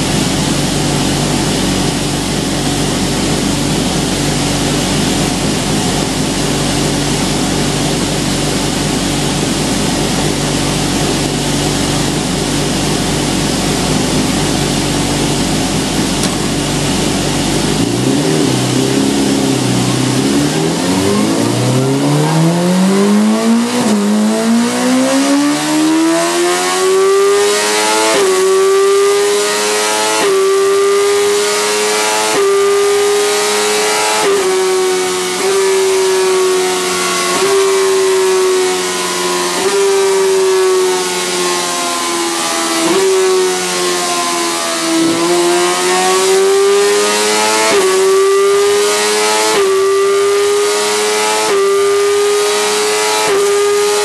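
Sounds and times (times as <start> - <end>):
gearshift upshifts: 0.0 - 26.1, 32.0 - 54.0
race car engine revving: 0.0 - 54.0.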